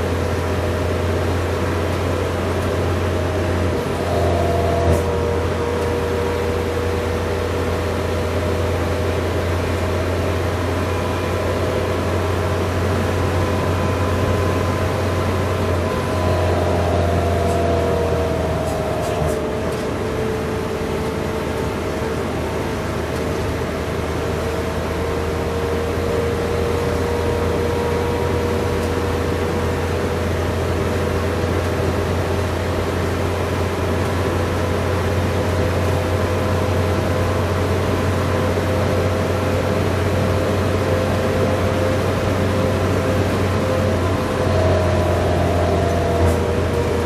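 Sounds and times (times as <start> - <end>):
bus engine and road drone: 0.0 - 47.0
rising whine: 0.0 - 47.0.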